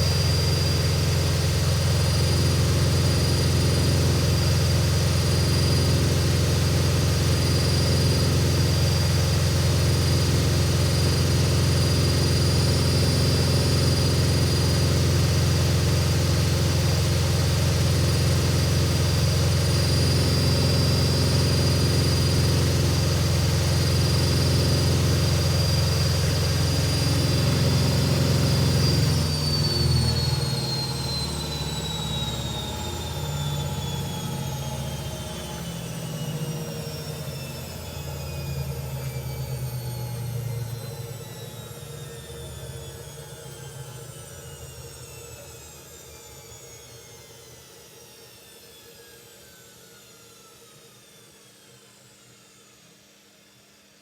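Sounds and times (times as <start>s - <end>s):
washing machine spinning: 0.0s - 43.4s
high motor whine: 0.0s - 49.6s.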